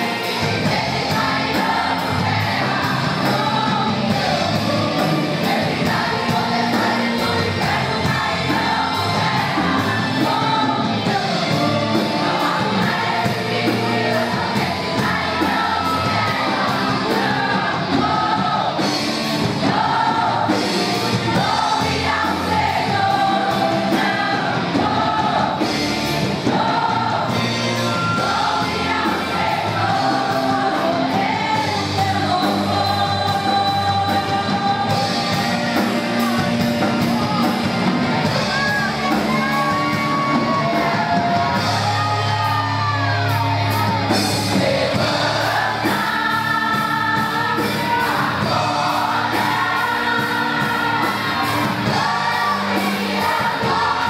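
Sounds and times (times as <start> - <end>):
band accompanying: 0.0 - 54.0
drums steady beat: 0.0 - 54.0
women's choir singing: 0.0 - 54.0.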